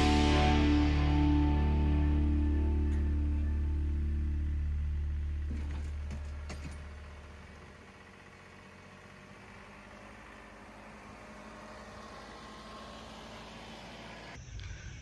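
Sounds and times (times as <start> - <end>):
tractor diesel engine driving past: 0.0 - 14.4.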